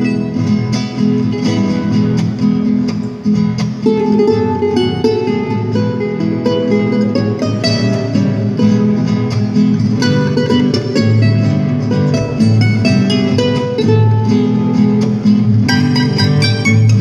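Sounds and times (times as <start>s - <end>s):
acoustic guitars playing chords: 0.0s - 17.0s.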